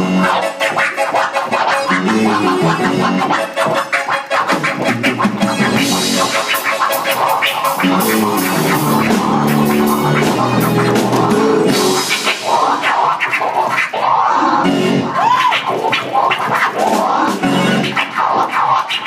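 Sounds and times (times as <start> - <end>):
drum kit: 0.0 - 19.0
electronic keyboard chords: 0.0 - 19.0
vinyl record scratching: 0.0 - 19.0.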